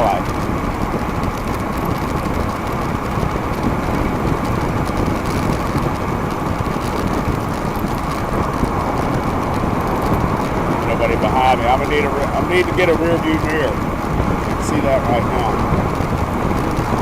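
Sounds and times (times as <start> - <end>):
road noise: 0.0 - 17.0
wind rushing: 0.0 - 17.0.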